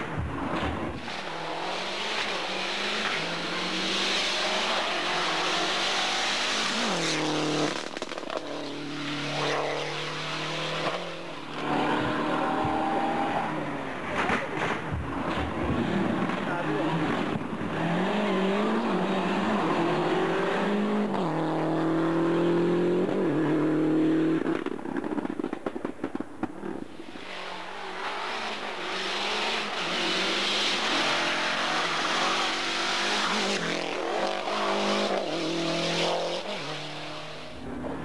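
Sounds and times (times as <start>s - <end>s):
rally car engine revving hard: 0.1s - 24.7s, 27.1s - 38.0s.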